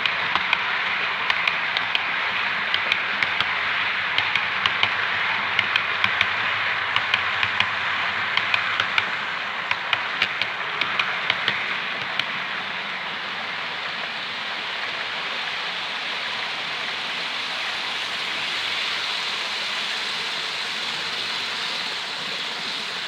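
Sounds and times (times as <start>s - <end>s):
model train whirring: 0.0s - 23.0s
wheels clicking over rail joints: 0.0s - 23.0s.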